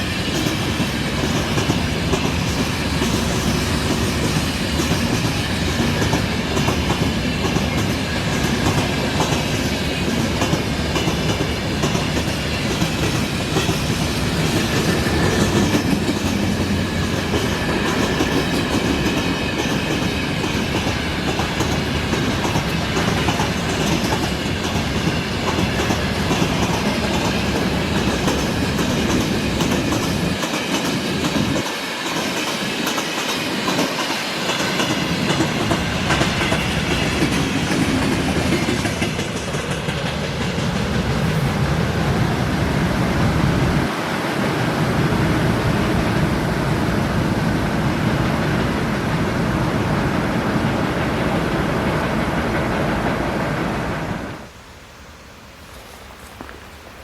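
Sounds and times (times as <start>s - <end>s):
train wheels clattering over rails: 0.0s - 46.9s.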